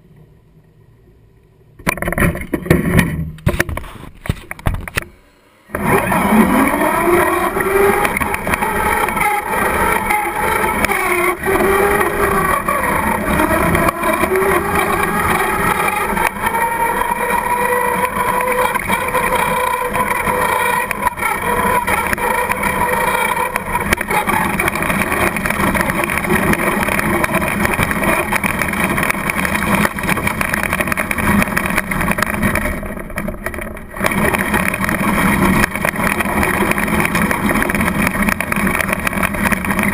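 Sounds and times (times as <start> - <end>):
tyre and road noise: 0.0 - 39.9
toy truck motor whine: 5.7 - 39.9.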